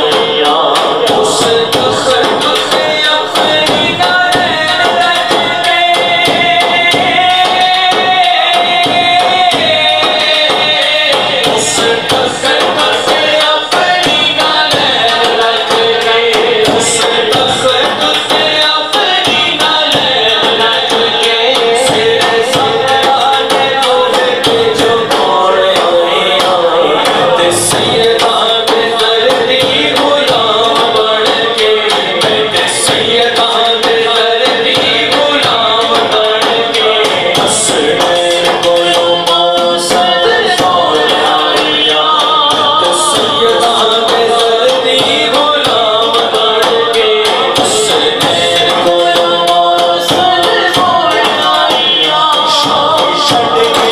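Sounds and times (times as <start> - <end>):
light percussion: 0.0 - 53.9
man singing into a microphone: 0.0 - 53.9.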